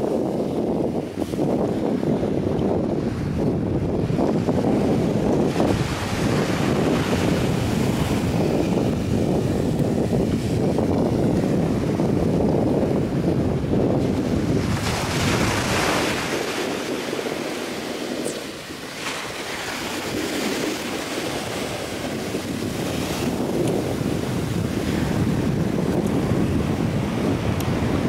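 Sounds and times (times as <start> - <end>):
ocean surf breaking on beach: 0.0 - 28.0
wind buffeting microphone: 0.0 - 28.0.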